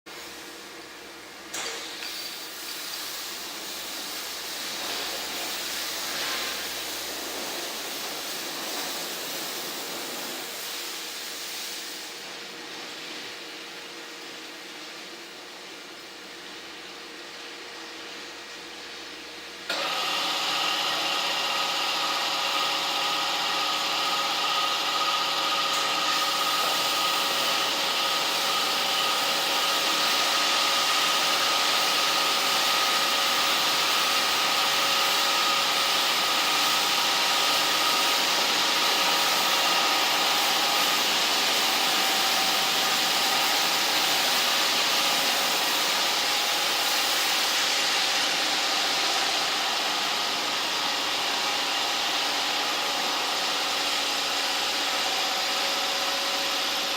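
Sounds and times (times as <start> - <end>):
car wash hiss: 0.1 - 17.0, 17.8 - 56.9.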